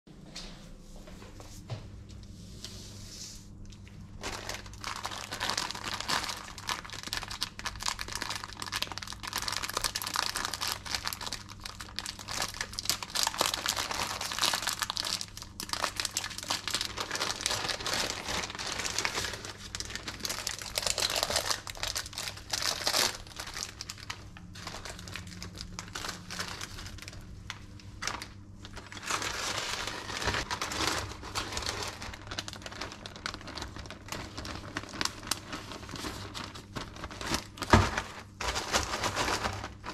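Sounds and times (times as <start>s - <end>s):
plastic wrapping crinkling: 3.5s - 39.9s.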